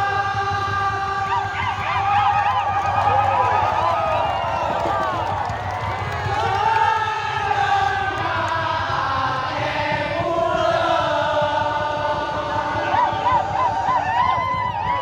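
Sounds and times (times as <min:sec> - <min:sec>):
crowd chanting: 0:00.0 - 0:15.0.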